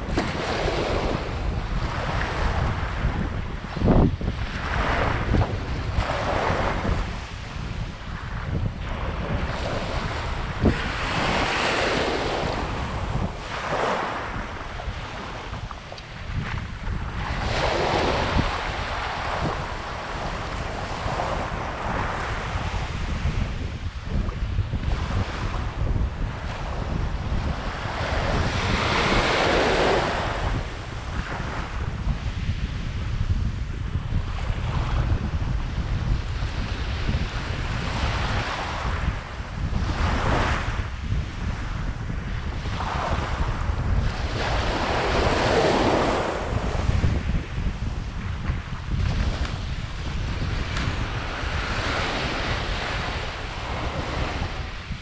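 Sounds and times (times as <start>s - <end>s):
surf waves washing on sand: 0.0s - 55.0s
wind buffeting microphone: 0.0s - 55.0s.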